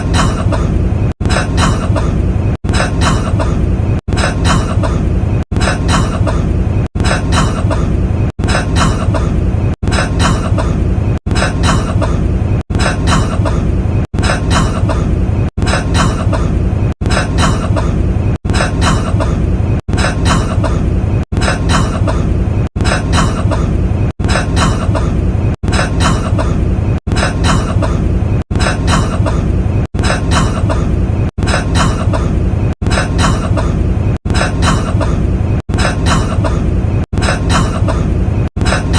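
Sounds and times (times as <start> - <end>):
man coughing: 0.0 - 19.4, 20.0 - 26.6, 27.2 - 38.9.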